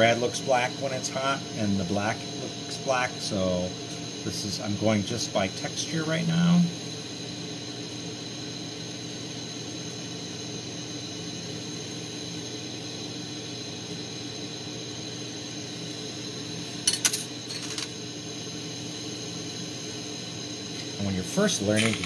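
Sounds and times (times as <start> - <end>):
torch flame hissing and humming: 0.0 - 22.0.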